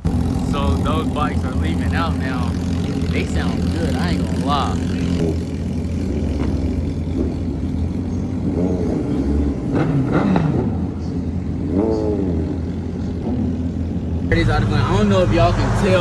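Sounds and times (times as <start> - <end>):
low engine rumble: 0.0 - 16.0
motorcycles revving: 0.0 - 16.0.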